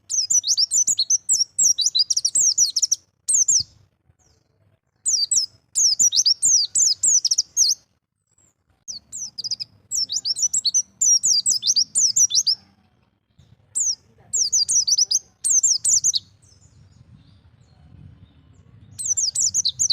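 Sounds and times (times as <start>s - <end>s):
bird chirping: 0.0s - 19.9s.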